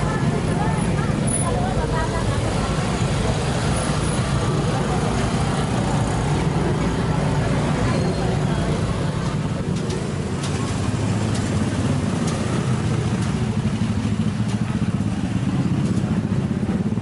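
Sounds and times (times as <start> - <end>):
motorcycle engines passing: 0.0 - 17.0.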